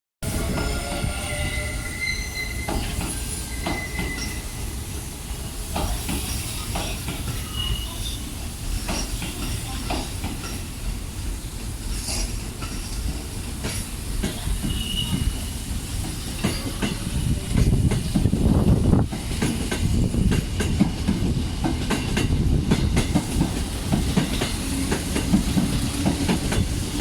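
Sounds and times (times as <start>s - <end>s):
train running gear rumble: 2.4s - 27.0s.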